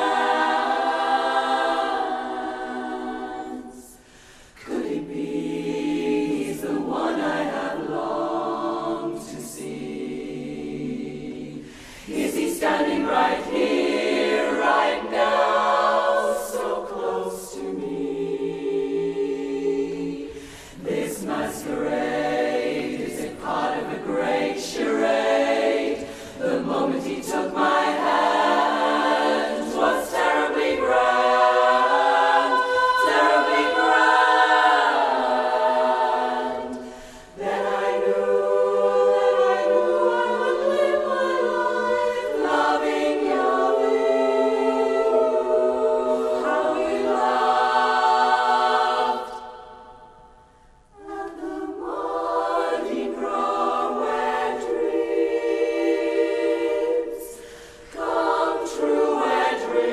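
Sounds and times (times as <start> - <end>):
women's chorus singing a cappella: 0.0 - 59.9.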